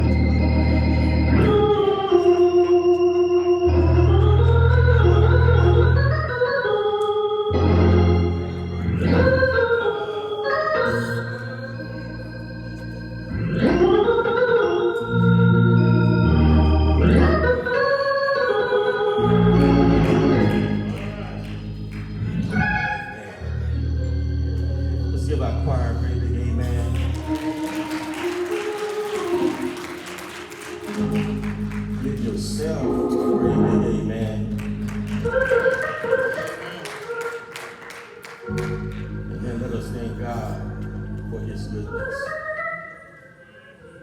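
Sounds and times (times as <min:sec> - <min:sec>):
organ music: 0:00.0 - 0:43.9.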